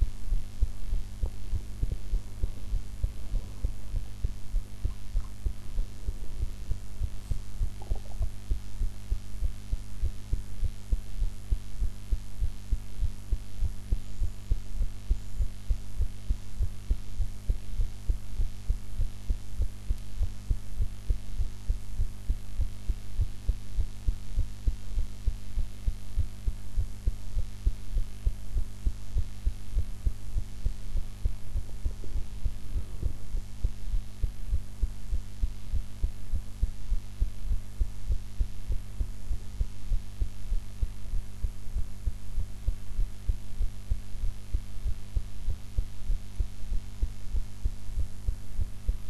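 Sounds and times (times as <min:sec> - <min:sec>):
constant low hum: 0:00.0 - 0:49.0
heartbeat thumps: 0:00.0 - 0:49.0.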